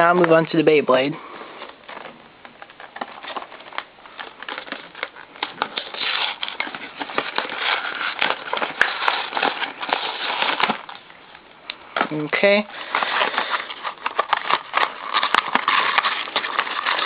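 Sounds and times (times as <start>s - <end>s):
plastic and cardboard crinkling: 0.0s - 17.0s.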